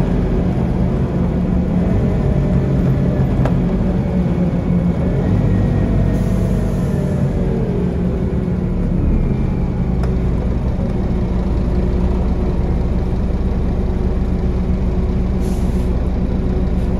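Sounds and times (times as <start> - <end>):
bus diesel engine running: 0.0 - 16.9.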